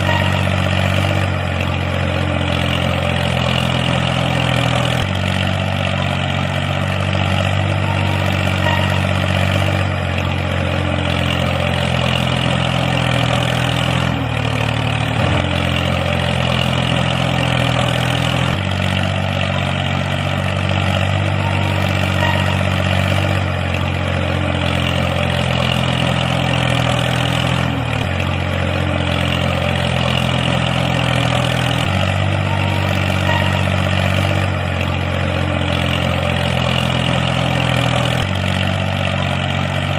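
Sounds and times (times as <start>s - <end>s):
mini tractor motor humming: 0.0s - 39.9s.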